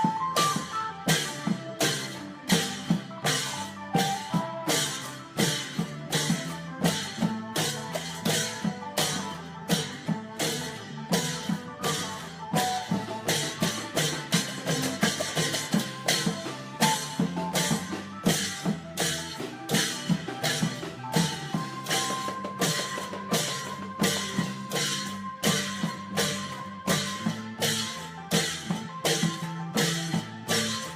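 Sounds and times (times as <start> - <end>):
long drum ensemble beat: 0.0 - 30.9.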